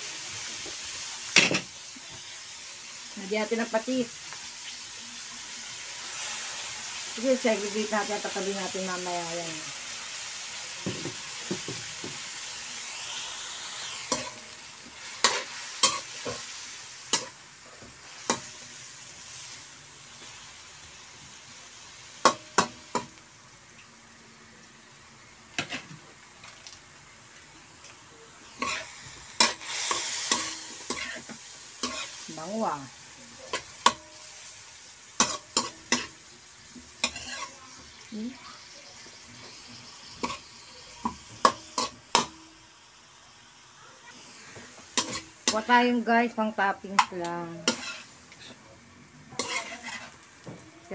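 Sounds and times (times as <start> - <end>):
vegetables sizzling in a pan: 0.0 - 50.9.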